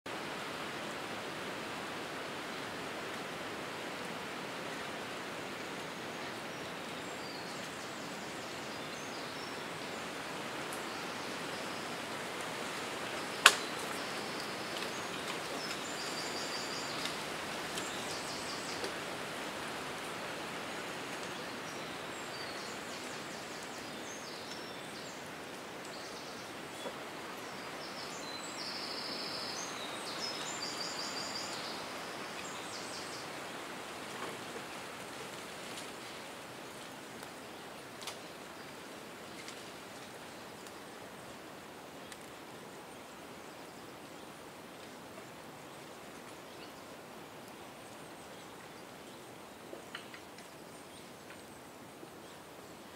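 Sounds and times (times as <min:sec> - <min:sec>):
wind through trees: 0:00.0 - 0:52.9.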